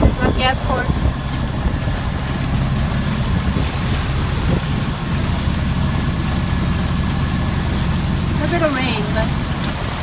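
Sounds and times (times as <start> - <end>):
outboard motor running: 0.0 - 10.0
wind buffeting microphone: 0.0 - 10.0.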